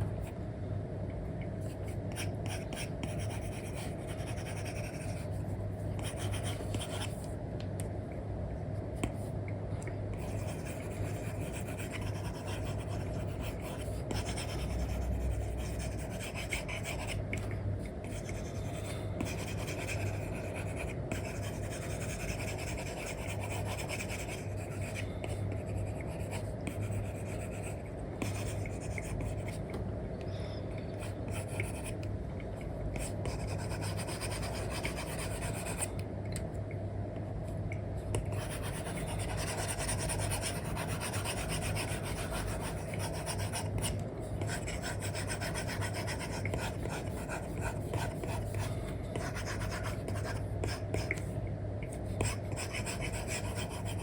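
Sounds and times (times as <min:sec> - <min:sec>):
steady low hum: 0:00.0 - 0:54.0
stylus scratching on screen: 0:01.7 - 0:07.3, 0:10.2 - 0:29.6, 0:33.0 - 0:35.9, 0:38.2 - 0:51.3, 0:51.9 - 0:54.0.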